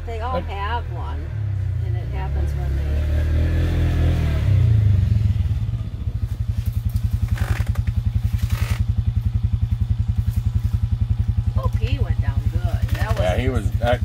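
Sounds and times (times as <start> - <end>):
low motor-like throbbing rumble: 0.0 - 14.0.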